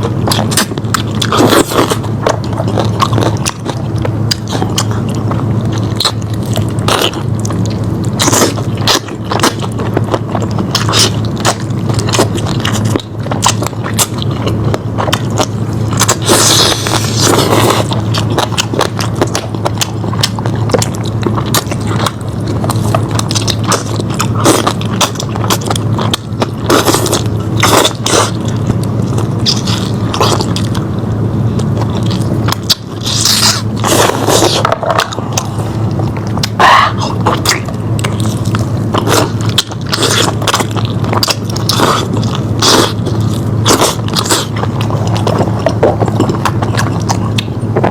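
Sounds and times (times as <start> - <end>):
chewing meat: 0.0 - 47.9
steady low hum: 0.0 - 47.9.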